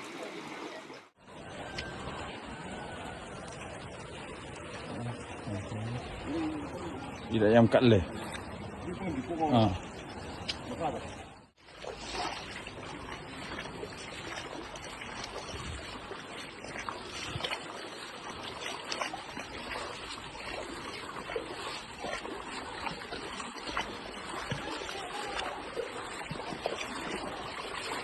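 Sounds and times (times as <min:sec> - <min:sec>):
floodwater rushing: 0:00.0 - 0:28.0
short water splashes: 0:00.0 - 0:28.0.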